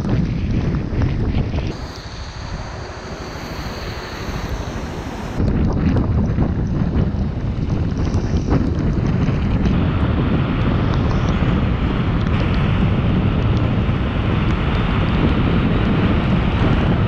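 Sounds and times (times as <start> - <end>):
wind buffeting camera microphone: 0.0 - 17.0.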